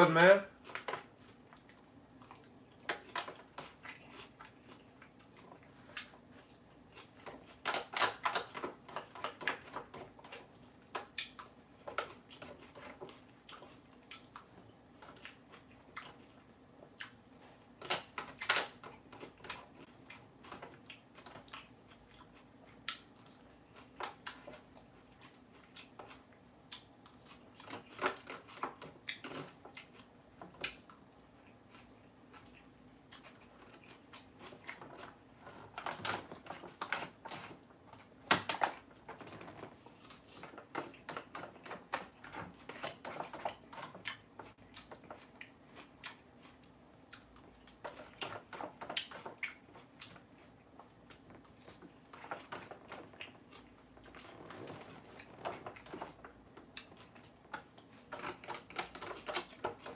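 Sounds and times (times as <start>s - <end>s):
person chewing crisp lettuce: 0.1s - 59.9s.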